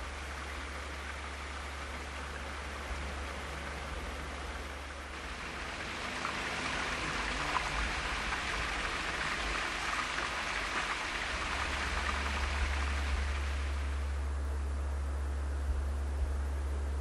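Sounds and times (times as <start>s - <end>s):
water rushing over weir: 0.0s - 14.1s.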